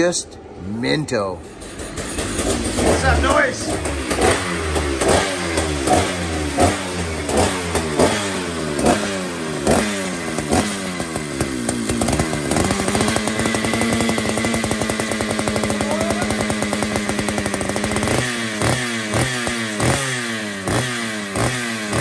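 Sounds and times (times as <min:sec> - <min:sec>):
chainsaw revving and idling: 0:01.4 - 0:22.0.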